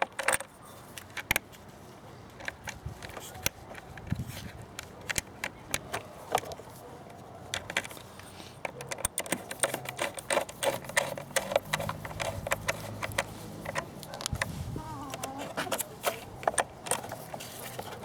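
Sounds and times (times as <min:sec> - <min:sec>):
clicks and knocks of tools: 0:00.0 - 0:01.6, 0:02.3 - 0:14.5, 0:15.1 - 0:18.0.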